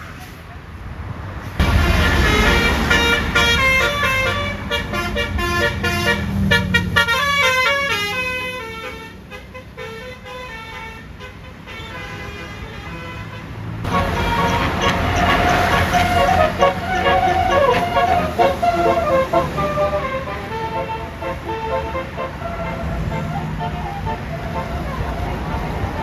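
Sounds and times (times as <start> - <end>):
bus engine rumble: 0.0 - 26.0
multi-tone air horn melody: 1.6 - 26.0.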